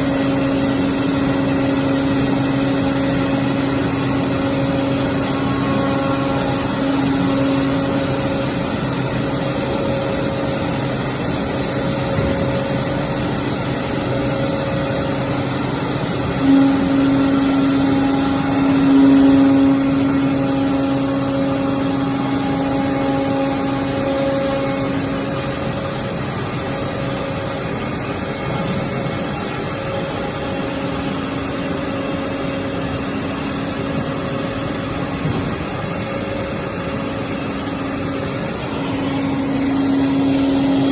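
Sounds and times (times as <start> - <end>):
wood cutting machine humming: 0.0 - 40.9.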